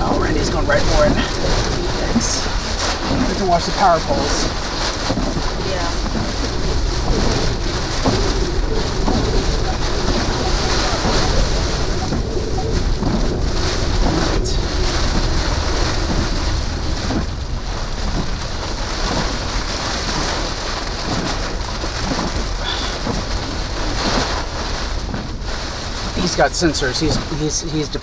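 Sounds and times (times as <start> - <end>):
deep rumble: 0.0 - 28.0
heavy rain on vehicle: 0.0 - 28.0.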